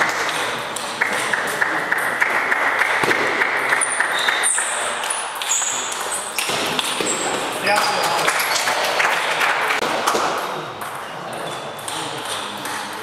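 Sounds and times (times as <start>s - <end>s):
table tennis ball hits: 0.0s - 8.6s, 9.8s - 13.0s.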